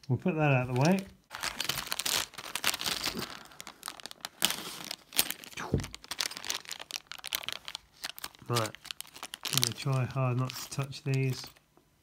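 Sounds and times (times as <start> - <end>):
plastic bag crinkling: 0.4 - 11.6.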